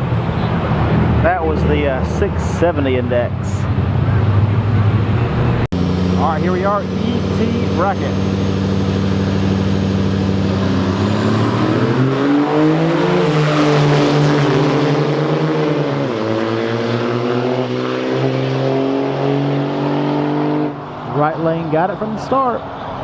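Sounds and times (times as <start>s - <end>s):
truck engines droning: 0.0s - 23.0s.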